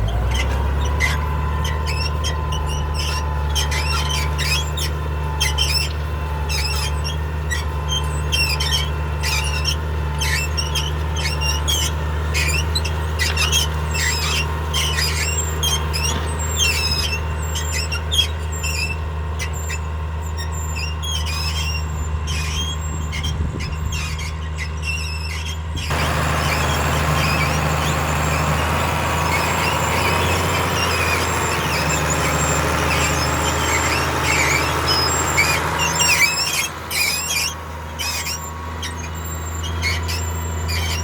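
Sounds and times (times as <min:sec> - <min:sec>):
diesel tractor running under load: 0:00.0 - 0:41.0
plough squeaking and squealing: 0:00.0 - 0:41.0.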